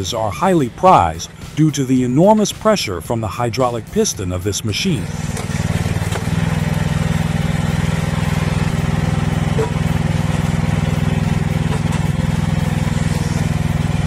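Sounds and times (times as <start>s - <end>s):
small engine running steadily: 0.0s - 2.8s, 3.8s - 14.0s.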